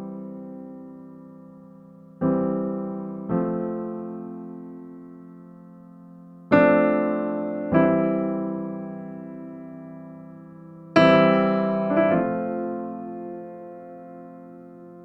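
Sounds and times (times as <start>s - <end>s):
slow solo piano chords: 0.0s - 15.0s.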